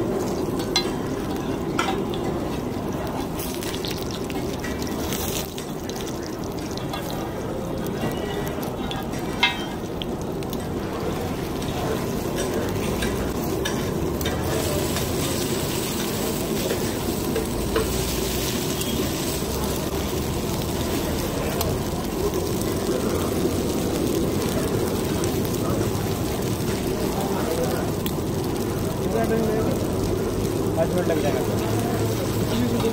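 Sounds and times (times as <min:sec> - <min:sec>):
potato patties sizzling in oil: 0:00.0 - 0:32.9.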